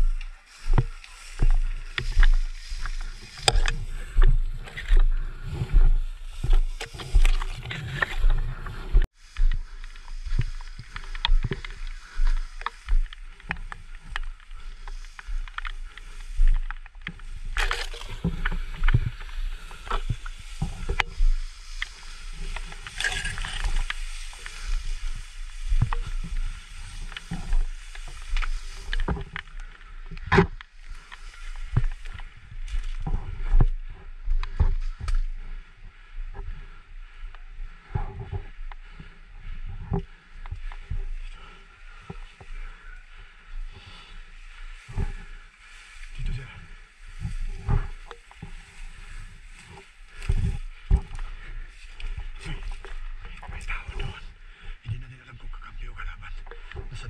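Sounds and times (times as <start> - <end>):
footsteps: 0.0 - 54.7
tall grass rustling: 0.0 - 57.0.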